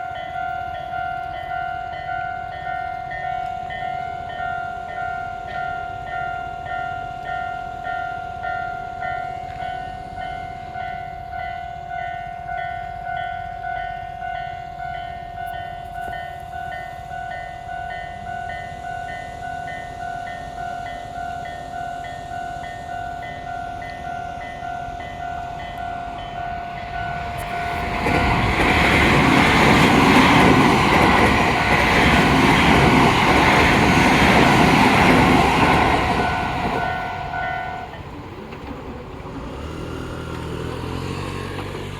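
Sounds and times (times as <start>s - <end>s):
level-crossing warning bell: 0.0s - 38.9s
train passing: 0.0s - 41.9s.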